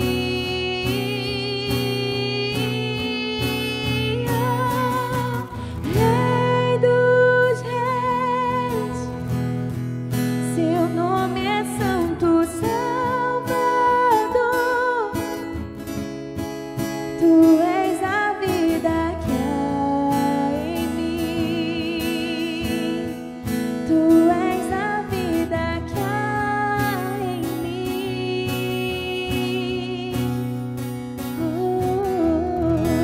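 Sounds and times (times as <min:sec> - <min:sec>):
acoustic guitar: 0:00.0 - 0:33.0
woman singing into a microphone: 0:00.0 - 0:33.0.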